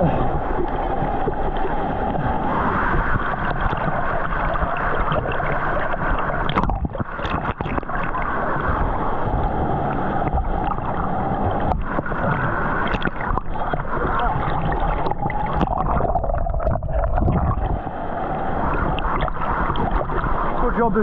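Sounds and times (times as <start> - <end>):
water churning and gurgling: 0.0 - 21.0.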